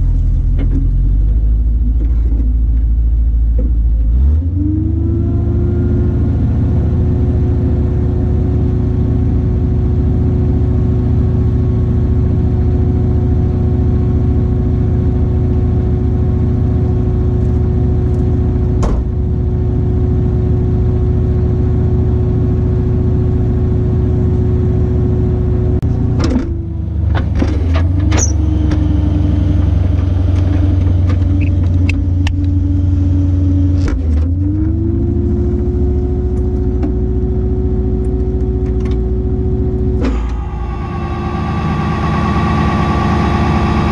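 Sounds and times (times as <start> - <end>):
engine whine: 0.0 - 43.9
truck engine running: 0.0 - 43.9.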